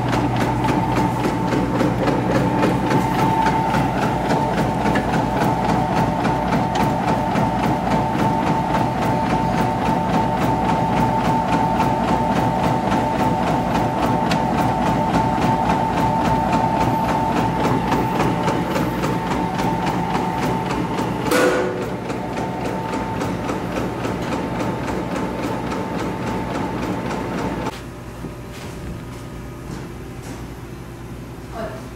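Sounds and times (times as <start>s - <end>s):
noodle machine humming and clattering: 0.0s - 30.6s.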